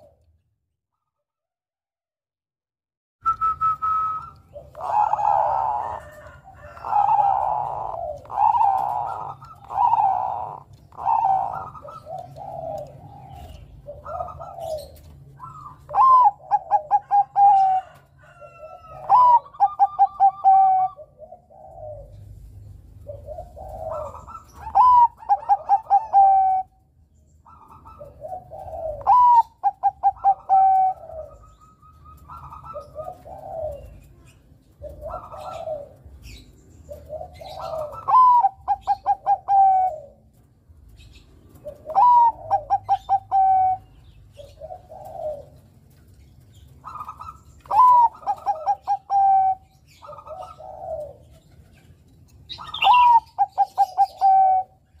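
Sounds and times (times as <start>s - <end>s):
dove cooing: 0.0s - 0.4s, 3.4s - 55.0s.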